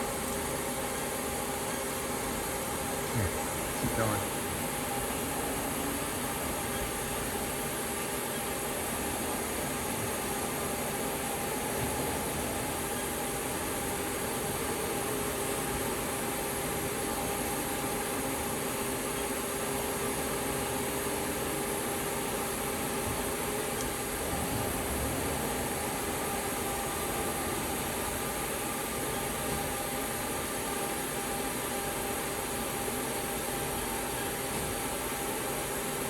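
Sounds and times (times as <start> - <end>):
lathe humming with whine: 0.0 - 36.0.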